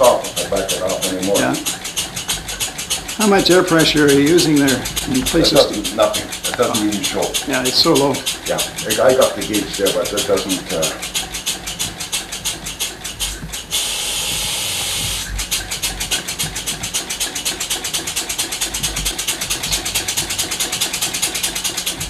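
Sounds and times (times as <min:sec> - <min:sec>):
model steam engine chuffing: 0:00.0 - 0:22.0
steady steam hiss: 0:00.0 - 0:22.0.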